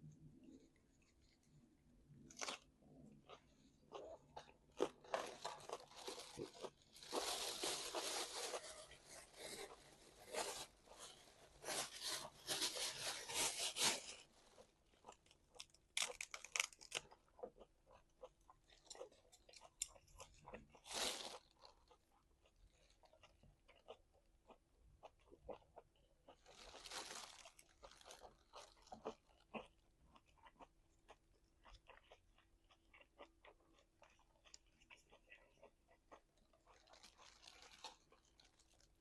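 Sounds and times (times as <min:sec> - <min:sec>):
person chewing meat: 0:01.1 - 0:10.4, 0:14.9 - 0:39.0.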